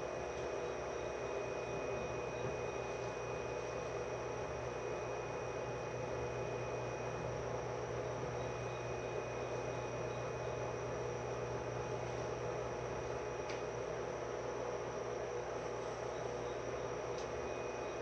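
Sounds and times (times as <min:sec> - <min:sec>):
electric train equipment humming: 0:00.0 - 0:18.0.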